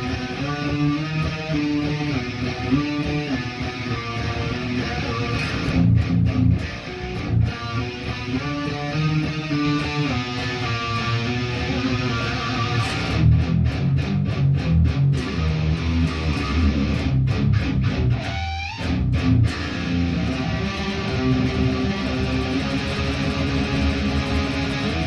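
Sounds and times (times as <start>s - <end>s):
electric guitar chords: 0.0s - 25.0s.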